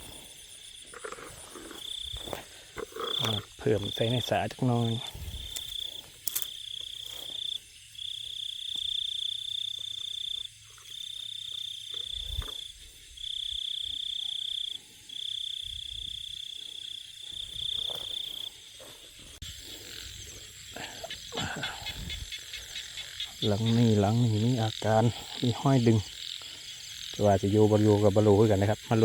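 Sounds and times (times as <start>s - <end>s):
insect trilling: 0.0s - 29.0s.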